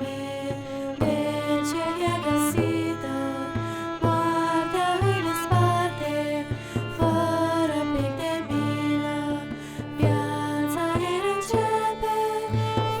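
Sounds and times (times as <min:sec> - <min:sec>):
bowed strings melody: 0:00.0 - 0:13.0.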